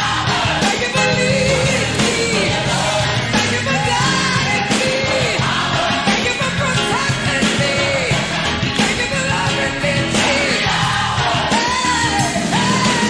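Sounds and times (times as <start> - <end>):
song with singer and band: 0.0 - 13.0.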